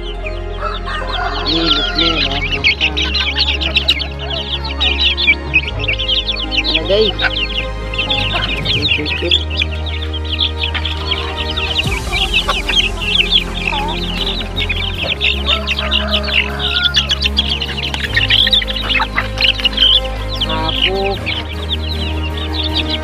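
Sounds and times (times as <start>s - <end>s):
background music with bass: 0.0s - 23.0s
chickens clucking and peeping: 0.0s - 23.0s.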